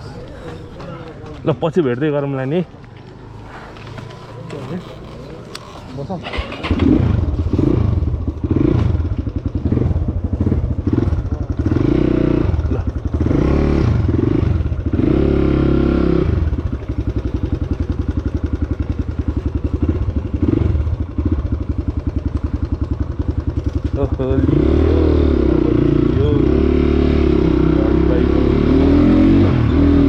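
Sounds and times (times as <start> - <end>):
motorcycle engine revving: 3.0 - 30.0.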